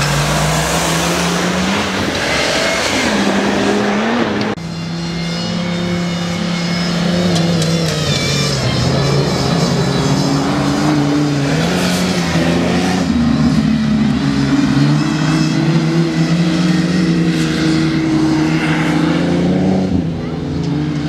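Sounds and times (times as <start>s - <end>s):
off-road vehicle engines revving: 0.0s - 21.0s.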